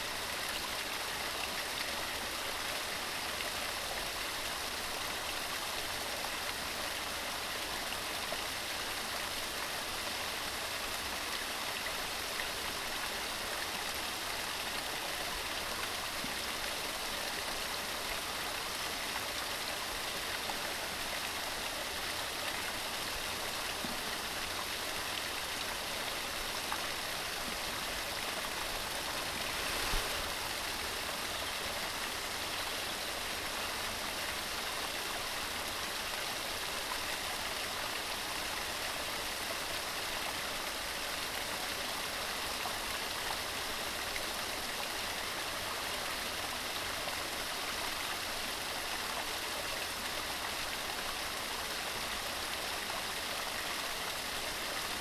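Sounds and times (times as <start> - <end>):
stream rushing water: 0.0 - 55.0.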